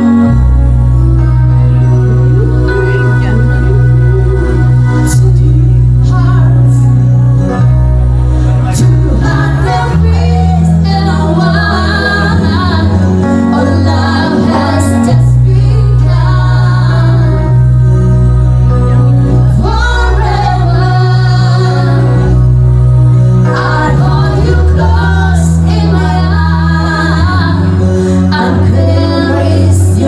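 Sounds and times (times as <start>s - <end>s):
deep bass line: 0.0s - 30.0s
loud music with singing: 0.0s - 30.0s.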